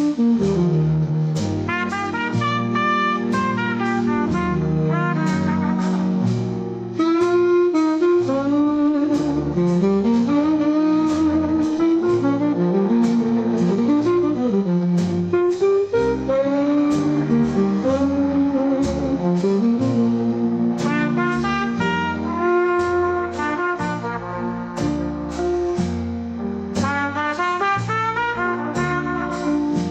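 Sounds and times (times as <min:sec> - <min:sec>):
instrumental jazz: 0:00.0 - 0:29.9.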